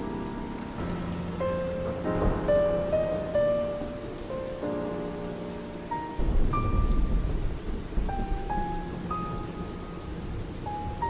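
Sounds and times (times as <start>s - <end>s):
low rumble of thunder: 0.0s - 11.0s
soft piano notes: 0.0s - 11.0s
steady rainfall: 0.0s - 11.0s.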